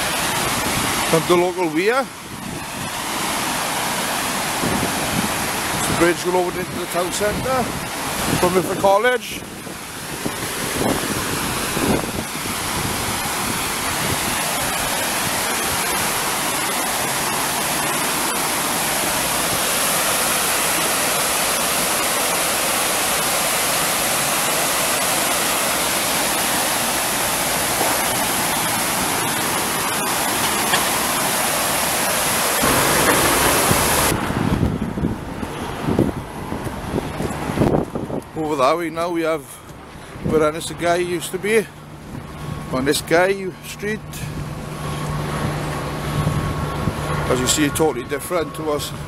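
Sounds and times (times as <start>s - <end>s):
water rushing over weir: 0.0s - 49.0s.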